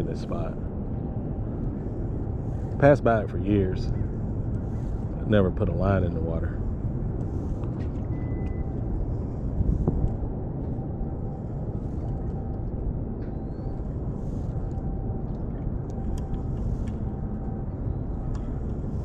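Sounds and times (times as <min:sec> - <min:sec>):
faint steady hum: 0:00.0 - 0:19.0
low rumble of harbour ambience: 0:00.0 - 0:19.0.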